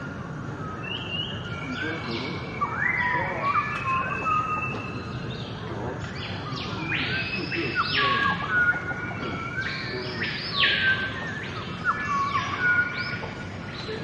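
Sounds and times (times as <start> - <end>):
birds chirping: 0.0 - 14.0
harsh bird calls: 0.0 - 14.0.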